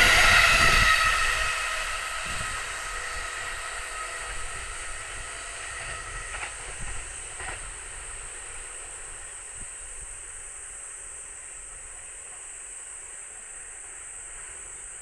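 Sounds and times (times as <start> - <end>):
electric train running: 0.0 - 15.0.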